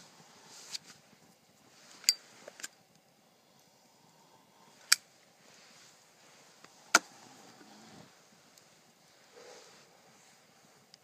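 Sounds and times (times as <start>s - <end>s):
low hiss: 0.0s - 11.0s
campfire popping: 0.2s - 11.0s.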